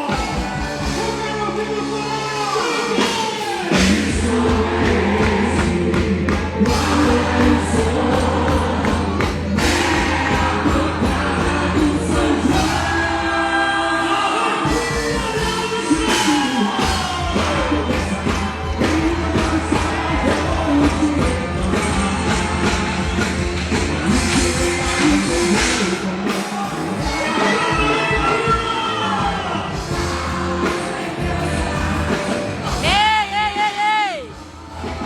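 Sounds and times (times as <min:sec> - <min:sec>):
song with singing voices: 0:00.0 - 0:35.0.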